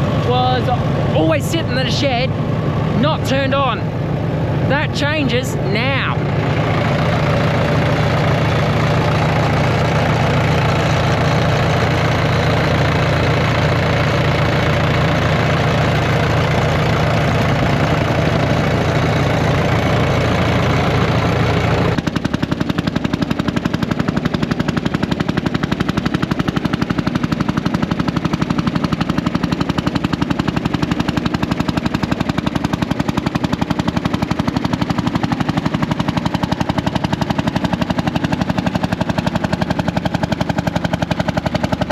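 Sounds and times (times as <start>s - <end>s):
crawler tractor engine running: 0.0s - 41.9s.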